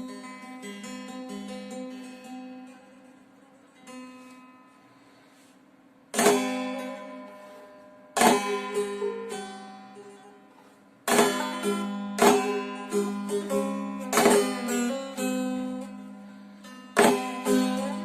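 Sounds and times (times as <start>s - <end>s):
plucked string notes: 0.0s - 5.4s, 6.1s - 18.0s
strummed chords: 0.0s - 18.0s.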